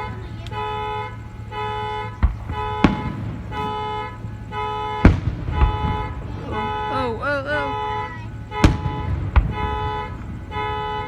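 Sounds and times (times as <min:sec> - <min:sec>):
car horn blasts: 0:00.0 - 0:11.0
fireworks bangs: 0:00.0 - 0:11.0.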